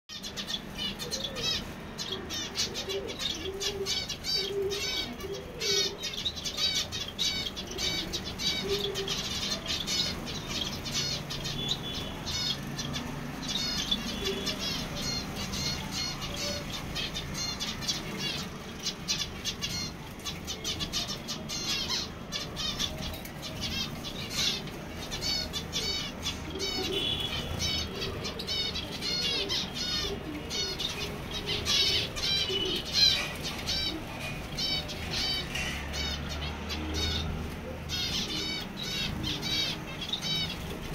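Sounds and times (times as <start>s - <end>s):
finches chirping: 0.1s - 40.9s.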